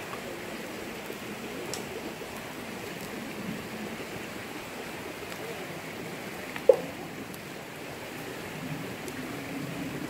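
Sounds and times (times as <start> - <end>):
stream rushing: 0.0 - 10.0.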